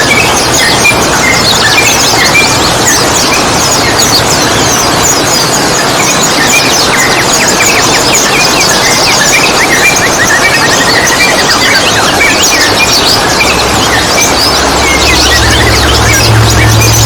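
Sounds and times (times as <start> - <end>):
songbirds chirping and chattering: 0.0 - 17.0.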